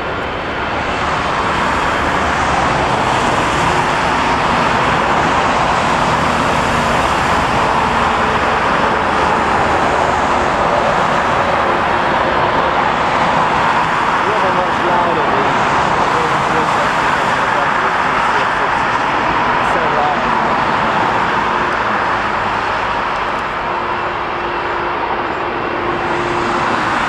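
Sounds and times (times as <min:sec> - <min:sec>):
jet engine roar: 0:00.0 - 0:27.0
road traffic: 0:00.0 - 0:27.0.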